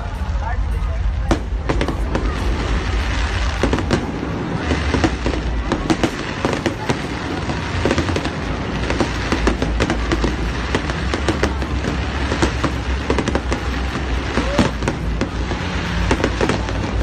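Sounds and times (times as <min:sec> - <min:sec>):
fireworks popping and banging: 0:00.0 - 0:17.0.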